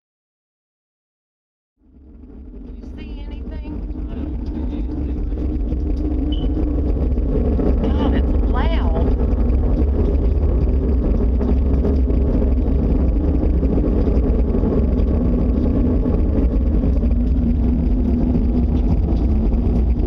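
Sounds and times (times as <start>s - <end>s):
loud low drone from the sky: 1.8s - 20.0s.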